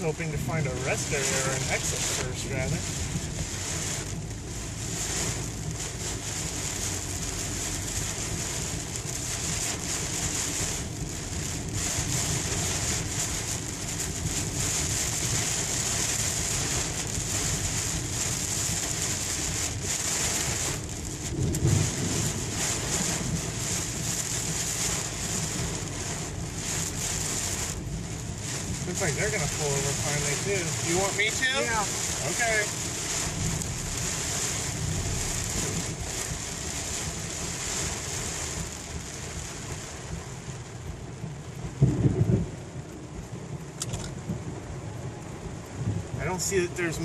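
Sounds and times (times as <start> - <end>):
car road and engine rumble: 0.0 - 47.0
heavy rain on car roof: 0.0 - 47.0.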